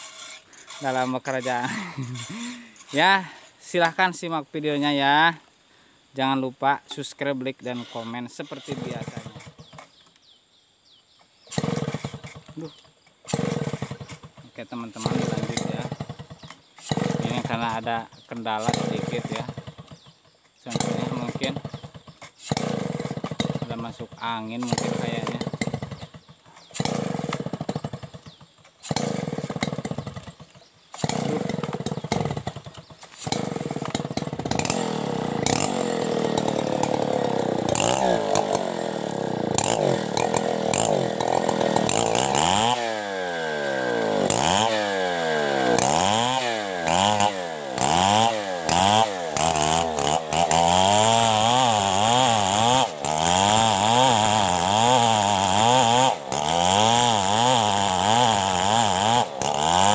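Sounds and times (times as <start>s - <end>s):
chainsaw engine revving: 0.0s - 4.0s, 7.0s - 10.0s, 11.5s - 59.9s.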